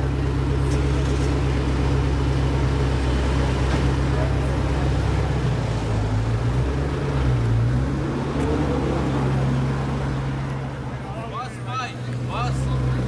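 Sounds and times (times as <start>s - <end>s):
car engine idling: 0.0s - 8.2s, 8.9s - 13.0s.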